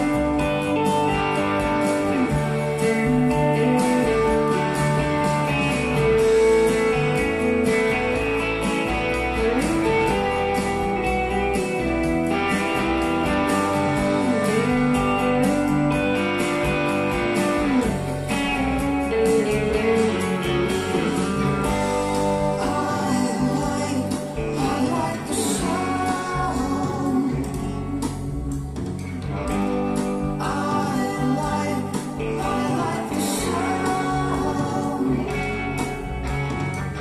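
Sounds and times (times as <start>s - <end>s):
guitar music through speakers: 0.0s - 37.0s.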